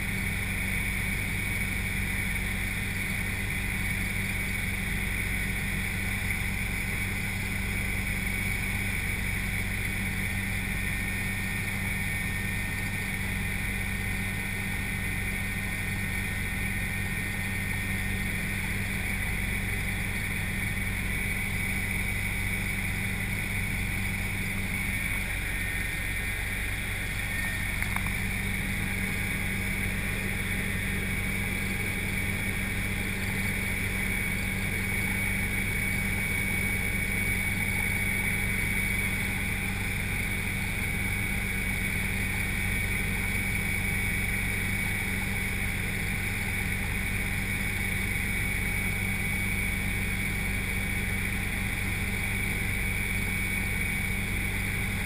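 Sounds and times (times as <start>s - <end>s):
helicopter rotor and engine drone: 0.0s - 55.0s
high whine: 0.0s - 55.0s.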